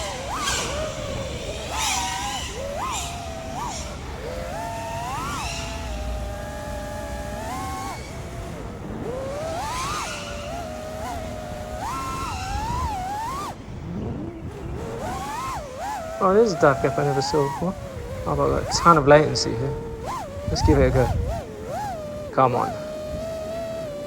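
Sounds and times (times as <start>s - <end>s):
quadcopter motors whining: 0.0s - 24.0s
rushing wind noise: 0.0s - 24.0s.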